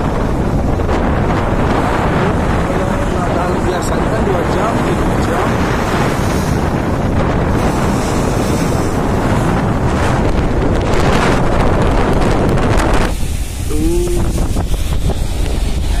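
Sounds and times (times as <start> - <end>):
rough sea washing past ferry: 0.0 - 16.0
wind buffeting microphone: 0.0 - 16.0.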